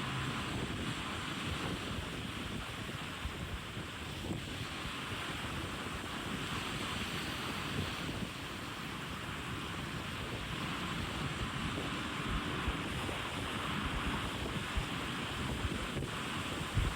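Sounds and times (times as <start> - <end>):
sea water rushing past ship: 0.0 - 16.9
wind buffeting microphone: 0.0 - 16.9.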